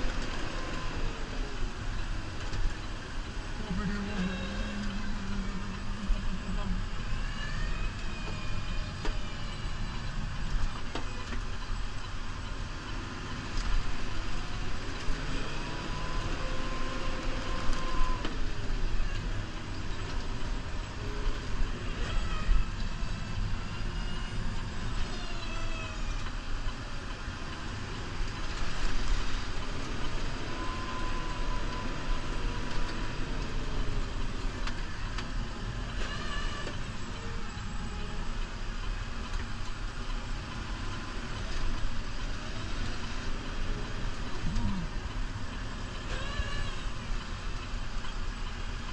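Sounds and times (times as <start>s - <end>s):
faint whining tones: 0.0s - 48.9s
tractor diesel engine under load: 0.0s - 48.9s.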